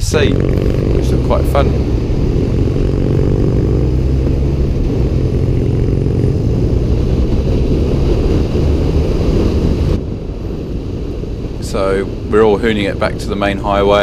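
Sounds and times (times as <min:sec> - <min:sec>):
motorcycle engine running: 0:00.0 - 0:14.0
wind rush of riding: 0:00.0 - 0:14.0.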